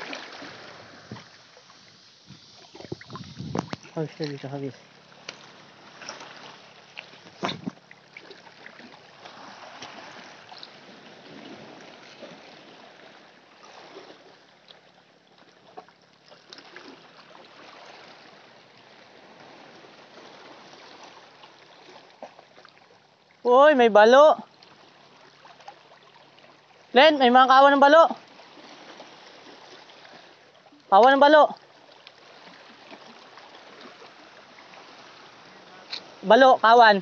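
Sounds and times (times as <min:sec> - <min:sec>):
sea water lapping and splashing: 0:00.0 - 0:37.0.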